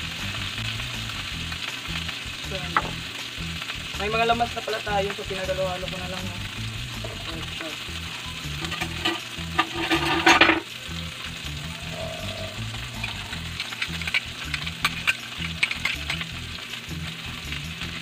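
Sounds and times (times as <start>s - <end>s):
fish frying in hot oil: 0.0s - 18.0s
oil crackles and pops: 0.0s - 18.0s.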